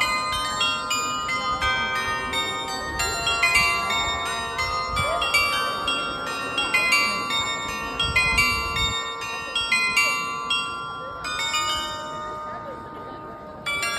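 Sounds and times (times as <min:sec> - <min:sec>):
glockenspiel bells playing a melody: 0:00.0 - 0:13.9.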